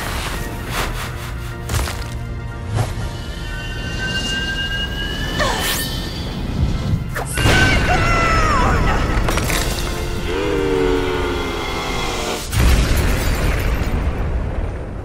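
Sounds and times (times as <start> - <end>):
music: 0.0 - 13.1.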